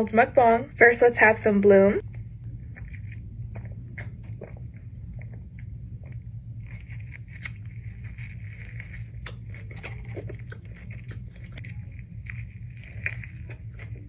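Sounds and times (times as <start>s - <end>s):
steady low hum: 0.0s - 14.0s
chewing and biting food: 2.0s - 14.0s
mouth clicks and crackles: 2.0s - 14.0s.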